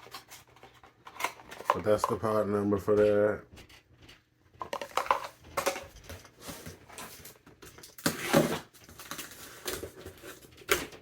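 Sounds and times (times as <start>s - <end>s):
cardboard and plastic packaging rustling: 0.0s - 11.0s.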